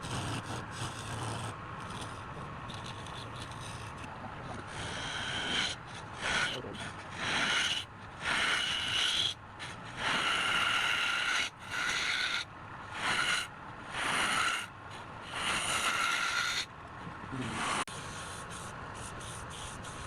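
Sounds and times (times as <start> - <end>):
tool rasping against wood: 0.0 - 16.7, 17.4 - 20.0.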